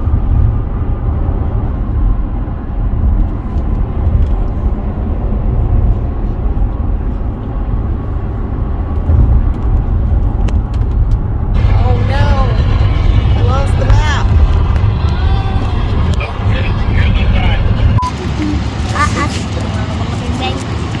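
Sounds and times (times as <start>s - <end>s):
road noise: 0.0s - 21.0s
vehicle rumble: 0.0s - 21.0s.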